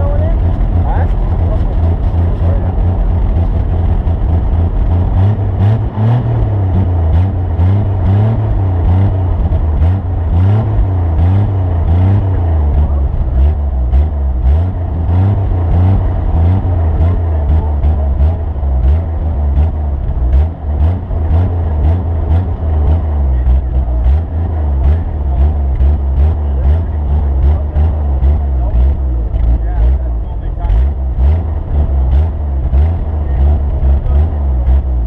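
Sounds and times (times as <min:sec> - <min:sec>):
vehicle engine revving: 0:00.0 - 0:35.0.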